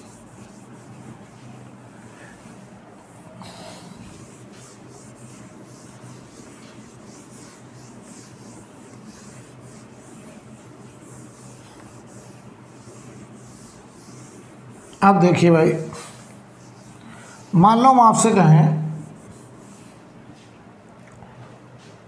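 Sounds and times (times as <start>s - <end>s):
duster wiping whiteboard: 0.0s - 20.6s
steady low hum: 0.0s - 22.0s.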